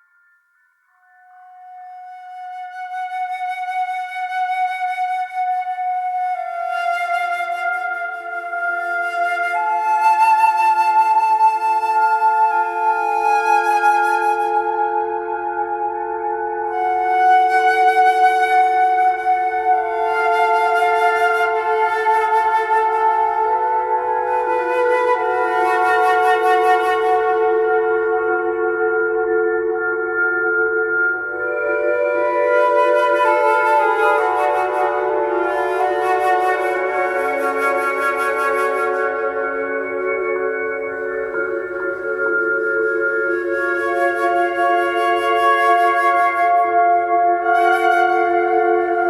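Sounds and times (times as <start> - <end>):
sustained flute-like notes: 0.0 - 49.0
eerie calm ambient music: 0.7 - 49.0.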